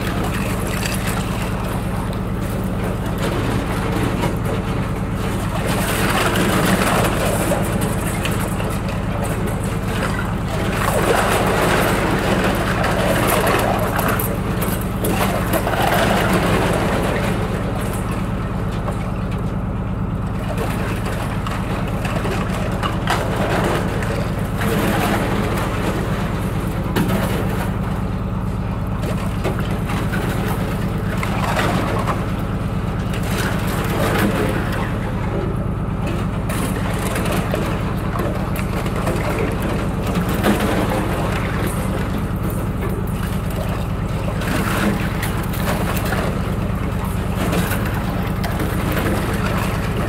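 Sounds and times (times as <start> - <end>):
boat engine running: 0.0 - 50.0.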